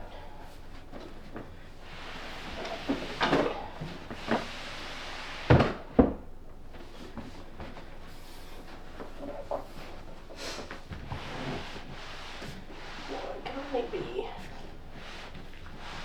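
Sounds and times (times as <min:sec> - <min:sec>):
furniture scraping: 0:00.6 - 0:06.2, 0:07.0 - 0:16.0.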